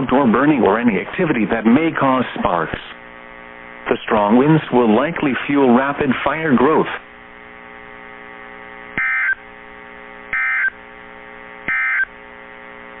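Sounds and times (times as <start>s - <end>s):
radio receiver hum: 0.0s - 13.0s.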